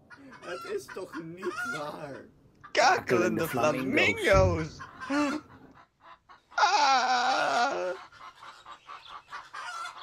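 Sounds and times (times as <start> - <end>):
soft bird clucks: 0.0 - 2.8, 3.6 - 6.6, 7.8 - 10.0
cackling bird calls: 0.0 - 2.9, 3.6 - 10.0.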